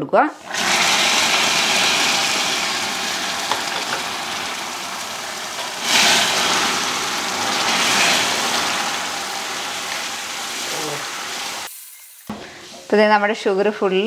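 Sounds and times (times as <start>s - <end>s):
loud hissing boil: 0.3s - 13.0s
caramel sizzling in a pan: 0.4s - 13.0s.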